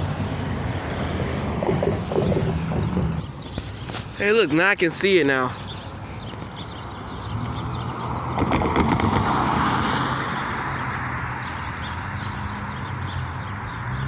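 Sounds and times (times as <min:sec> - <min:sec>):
low engine hum: 0:00.0 - 0:14.0
vehicle passing: 0:00.0 - 0:14.0.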